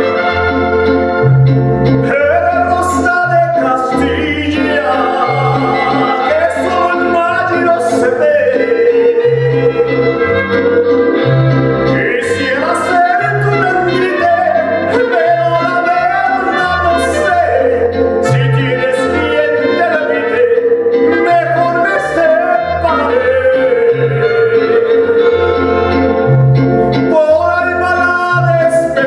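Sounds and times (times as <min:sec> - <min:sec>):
bass alternating two notes: 0:00.0 - 0:21.7, 0:22.6 - 0:27.1
gliding melody line: 0:00.0 - 0:29.0.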